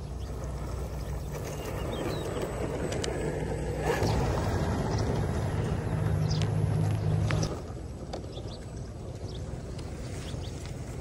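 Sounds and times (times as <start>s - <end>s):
model truck motor drone: 0.0s - 11.0s
tyres crunching over gravel: 0.7s - 11.0s.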